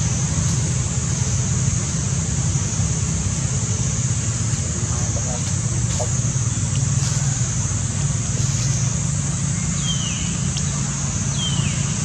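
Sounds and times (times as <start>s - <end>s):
constant high hiss: 0.0s - 12.0s.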